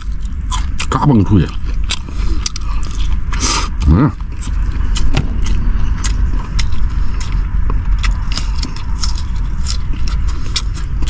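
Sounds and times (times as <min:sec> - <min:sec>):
chewing and crunching garlic: 0:00.0 - 0:11.0
steady low rumble: 0:00.0 - 0:11.0.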